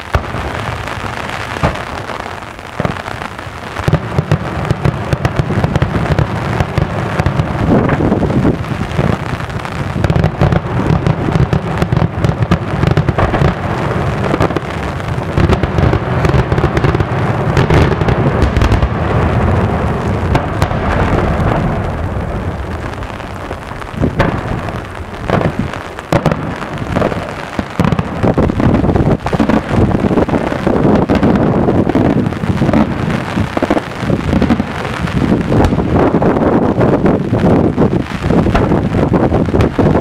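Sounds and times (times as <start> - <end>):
fireworks bursts and bangs: 0.0 - 40.0.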